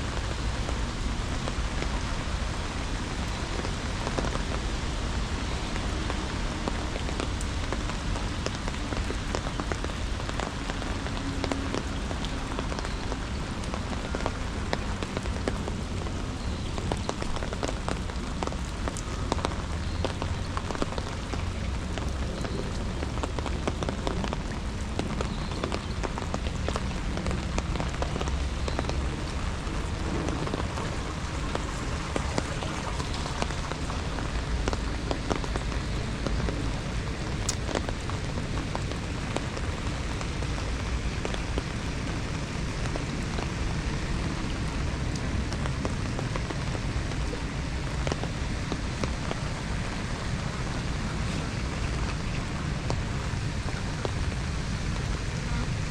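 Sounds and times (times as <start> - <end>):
raindrops ticking close by: 0.0 - 55.9
steady rain falling: 0.0 - 55.9.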